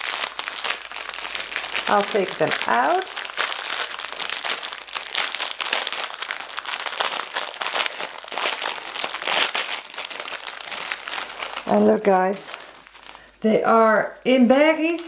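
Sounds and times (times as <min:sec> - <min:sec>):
plastic wrapping crinkling: 0:00.0 - 0:13.4.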